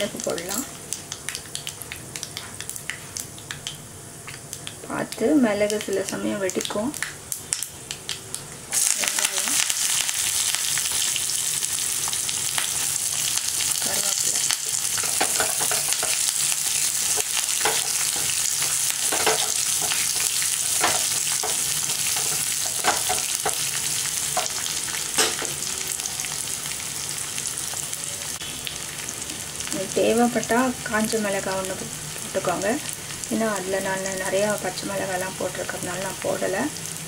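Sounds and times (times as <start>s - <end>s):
spices sizzling in hot oil: 0.0s - 37.0s.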